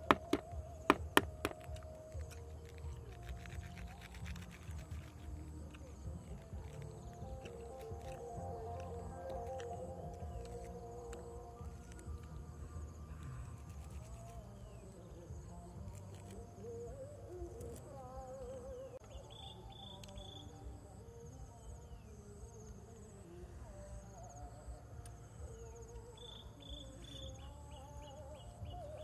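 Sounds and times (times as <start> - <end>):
faint wavering animal calls: 0.0 - 29.0
insects chirping: 0.0 - 29.0.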